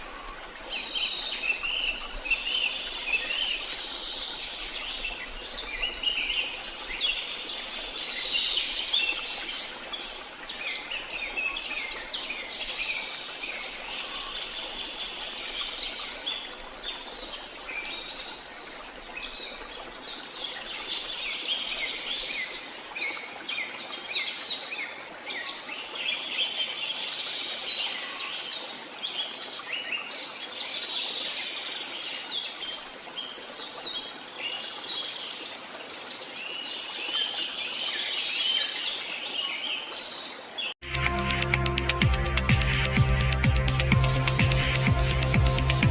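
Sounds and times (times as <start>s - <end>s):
songbirds chirping chorus: 0.0s - 40.8s.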